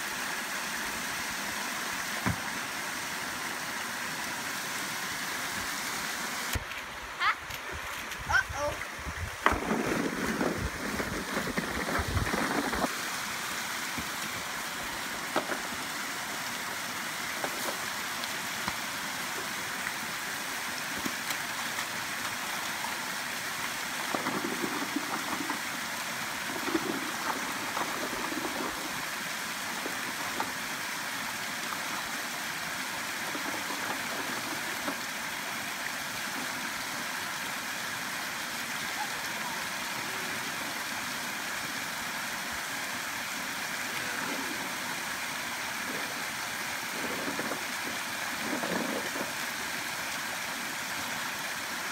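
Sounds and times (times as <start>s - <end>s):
creek water rushing over rocks: 0.0s - 51.9s.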